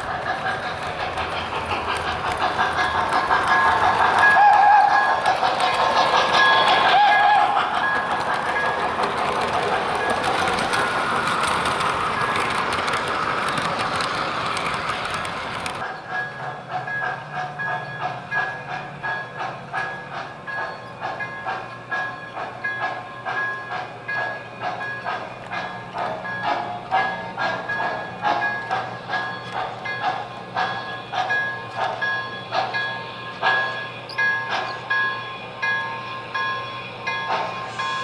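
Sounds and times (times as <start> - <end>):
model locomotive chuffing: 0.0 - 38.0
model train cars rumbling: 0.0 - 38.0.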